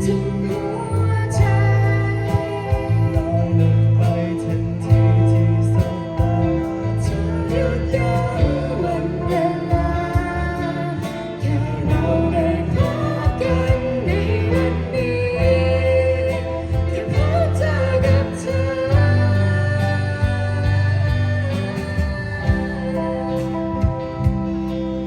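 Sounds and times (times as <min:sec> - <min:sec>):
live band playing: 0:00.0 - 0:25.0
person singing: 0:00.0 - 0:25.0.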